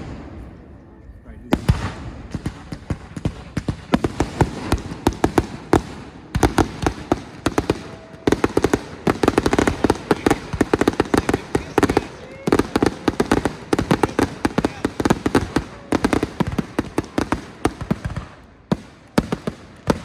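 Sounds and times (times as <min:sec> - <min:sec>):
fireworks cracking: 0:00.0 - 0:20.0.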